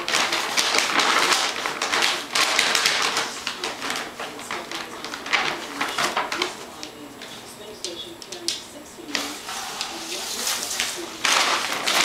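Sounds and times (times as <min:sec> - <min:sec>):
paper bag crinkling: 0:00.0 - 0:08.4, 0:09.1 - 0:12.0.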